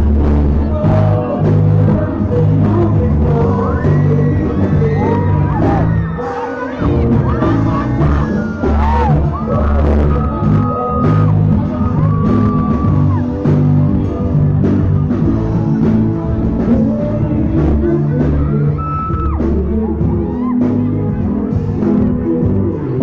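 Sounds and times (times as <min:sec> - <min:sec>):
bass guitar: 0:00.0 - 0:23.0
drum kit: 0:00.0 - 0:23.0
electric guitar: 0:00.0 - 0:23.0
man singing: 0:00.0 - 0:23.0.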